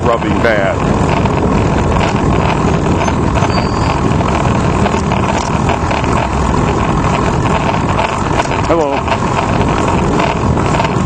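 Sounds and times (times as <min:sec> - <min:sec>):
bicycle tyre noise on pavement: 0:00.0 - 0:11.0
wind on microphone: 0:00.0 - 0:11.0.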